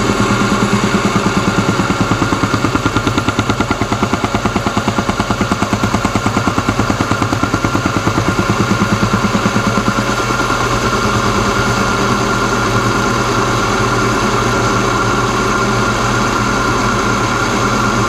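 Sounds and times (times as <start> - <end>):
metal-cutting machine tool running: 0.0 - 18.0.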